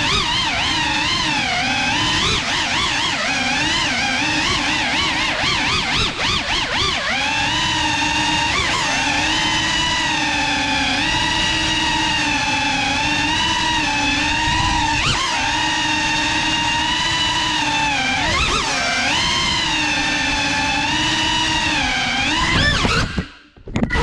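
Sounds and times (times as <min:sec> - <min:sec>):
drone motors buzzing: 0:00.0 - 0:24.0.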